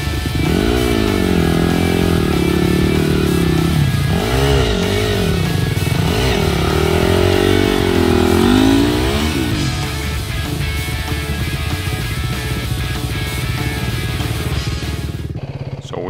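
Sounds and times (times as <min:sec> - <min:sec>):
heavy rock music: 0:00.0 - 0:15.4
dirt bike engine revving: 0:00.0 - 0:16.0.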